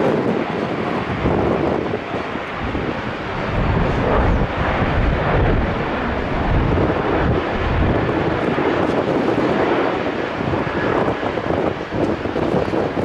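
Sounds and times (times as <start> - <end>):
jet engines taxiing: 0.0 - 13.0.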